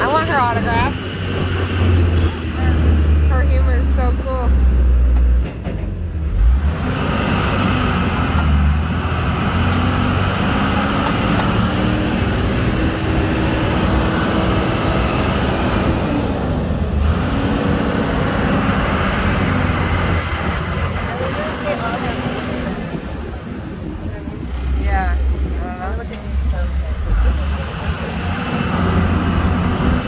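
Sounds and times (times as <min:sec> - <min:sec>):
boat engine droning: 0:00.0 - 0:05.4, 0:06.4 - 0:30.0.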